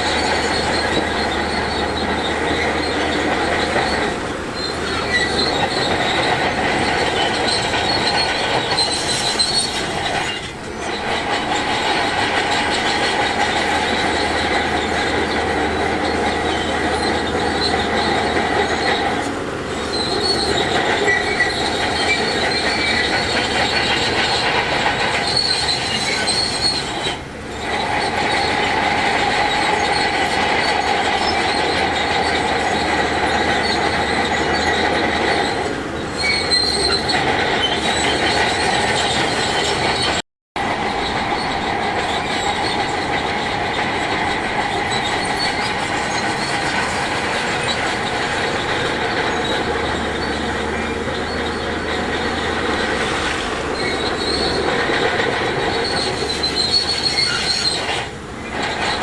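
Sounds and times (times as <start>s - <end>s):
diesel engine noise: 0.0s - 59.0s
steel tracks squealing: 0.0s - 59.0s.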